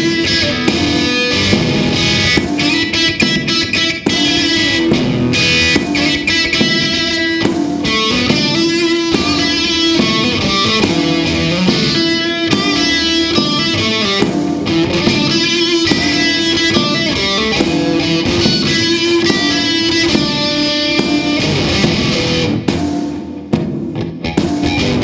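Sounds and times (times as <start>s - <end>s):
blues guitar music: 0.0s - 25.0s.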